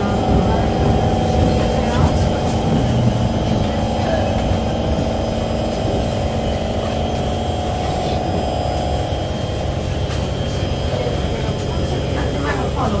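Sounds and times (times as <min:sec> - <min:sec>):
fast even wheel beat: 0:00.0 - 0:10.9
electric hum: 0:00.0 - 0:12.1
train wheels rumbling on rail: 0:00.0 - 0:13.0.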